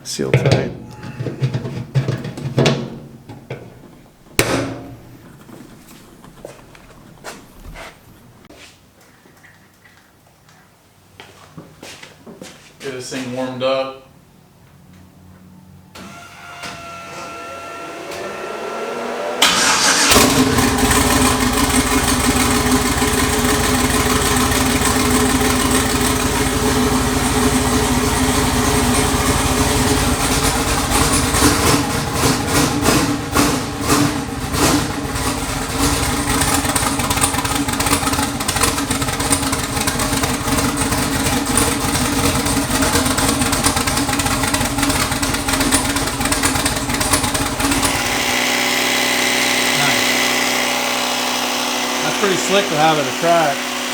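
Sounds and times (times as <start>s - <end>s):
engine starting and idling loudly: 0.1s - 8.5s, 16.0s - 53.9s
starter whir: 0.4s - 8.5s, 16.0s - 53.9s.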